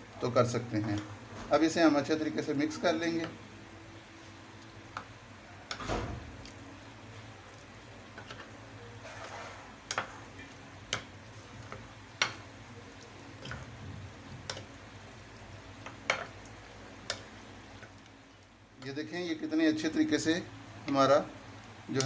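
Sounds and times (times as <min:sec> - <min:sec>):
soft wet stirring: 0:00.5 - 0:22.0.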